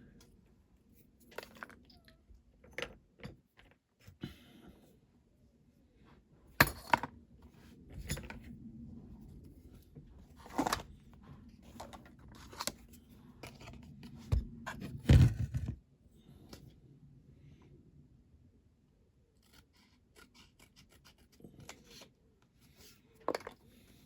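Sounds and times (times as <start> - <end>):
low steady hum: 0.0 - 20.2.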